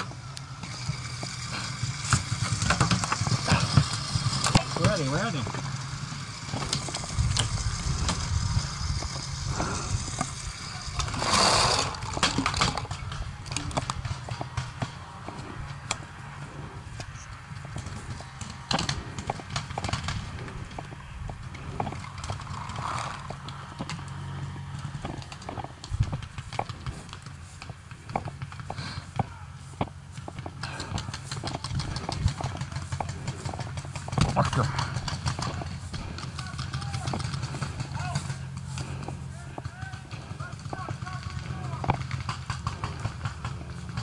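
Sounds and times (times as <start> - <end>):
sharp clicks and knocks: 0.0 - 16.1, 17.0 - 44.0
footsteps: 0.0 - 44.0
low handling rumble: 0.0 - 44.0
rattling gear: 0.0 - 44.0.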